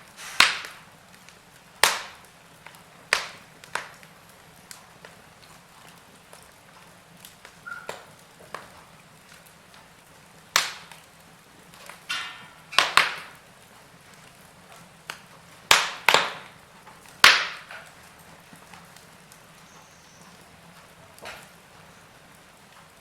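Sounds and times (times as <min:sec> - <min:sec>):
faint steady hiss: 0:00.0 - 0:23.0
wood fire crackling: 0:00.0 - 0:23.0.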